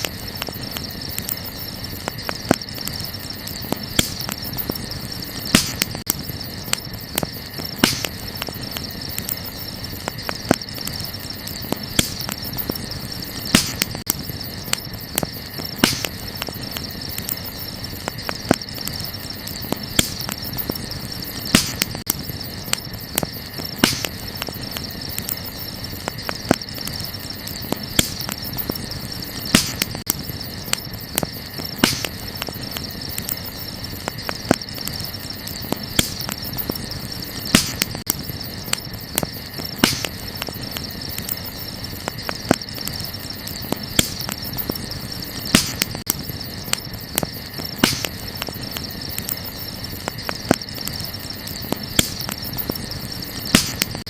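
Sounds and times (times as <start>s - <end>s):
night insects chirring: 0.0s - 54.0s
wood fire crackling: 0.0s - 54.0s.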